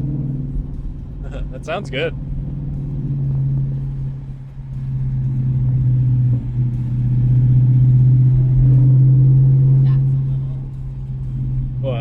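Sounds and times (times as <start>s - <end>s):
car engine deep drone: 0.0s - 12.0s.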